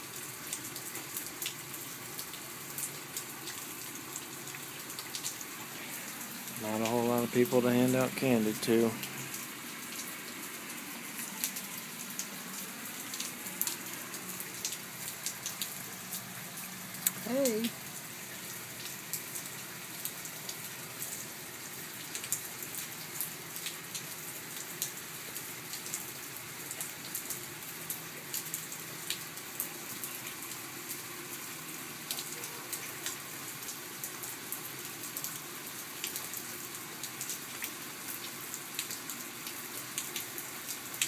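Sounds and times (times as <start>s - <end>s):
steady rain hiss: 0.0s - 41.0s
raindrops ticking: 0.1s - 41.0s.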